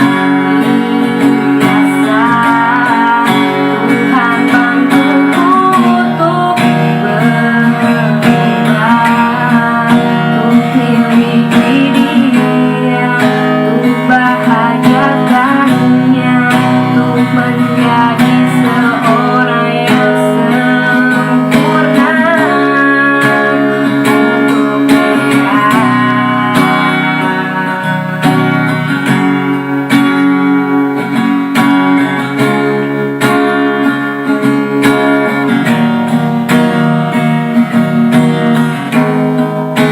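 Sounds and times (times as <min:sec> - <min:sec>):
guitar-led music: 0:00.0 - 0:39.9.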